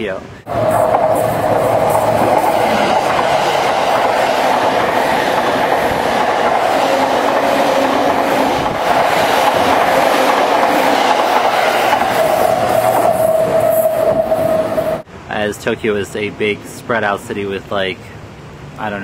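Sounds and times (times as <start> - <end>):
train wheel and track noise: 0.0 - 19.0.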